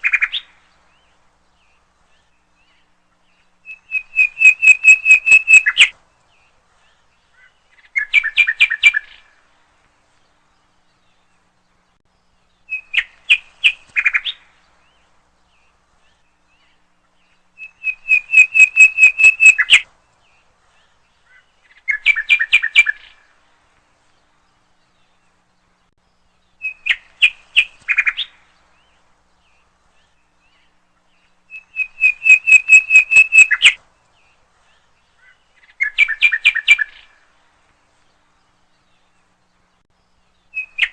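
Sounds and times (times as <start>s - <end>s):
bird chirping: 0.0s - 9.5s, 10.1s - 23.4s, 24.0s - 40.9s.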